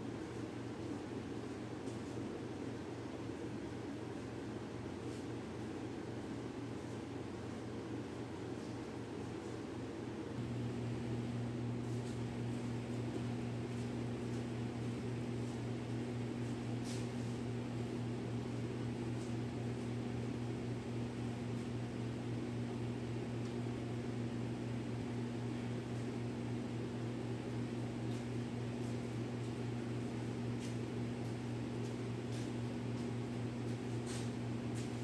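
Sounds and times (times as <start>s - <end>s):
motor or fan humming: 0.0s - 35.0s.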